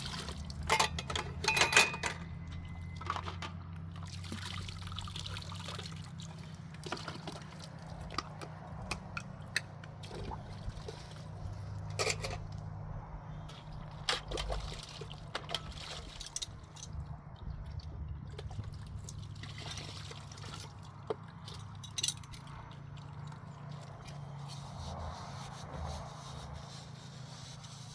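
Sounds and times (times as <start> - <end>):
water trickling and splashing: 0.0 - 12.7, 13.4 - 27.9.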